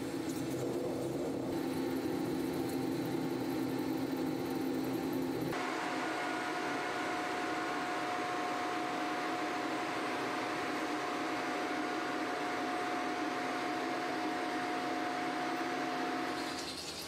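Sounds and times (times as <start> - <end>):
low machine hum: 0.0 - 16.6
mid-pitched machine whine: 0.0 - 16.8.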